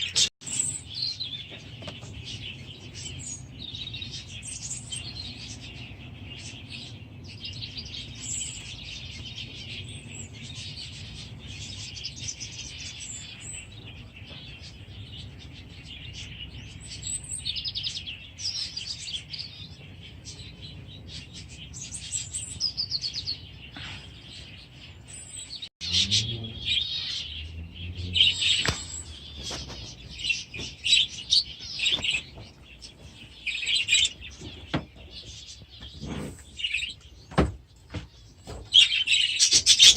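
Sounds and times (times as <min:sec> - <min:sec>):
budgerigars chirping: 0:02.2 - 0:35.9, 0:38.5 - 0:39.9.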